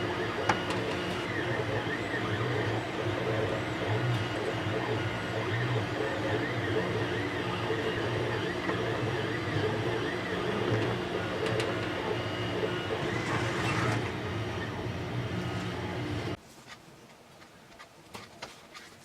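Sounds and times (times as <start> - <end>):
stepper motors whining: 0.0 - 16.4
three-d printer humming: 0.0 - 16.4.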